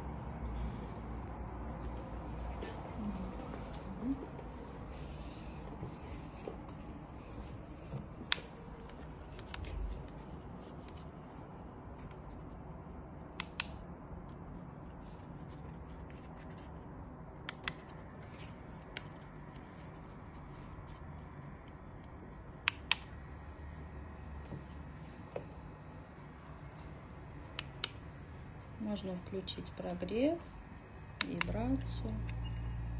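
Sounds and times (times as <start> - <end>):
faint low hum: 0.0 - 32.9.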